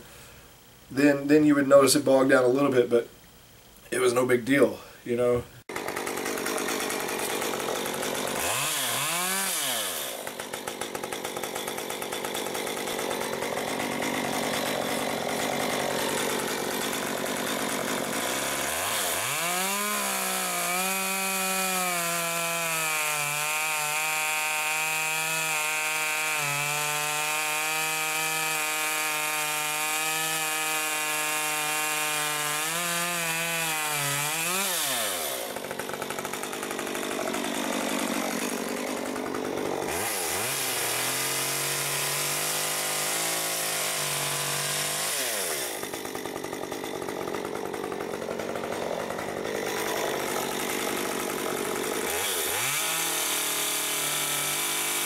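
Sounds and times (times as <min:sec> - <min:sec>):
chainsaw cutting through log: 0:05.6 - 0:55.0
chainsaw revving and idling: 0:05.6 - 0:55.0.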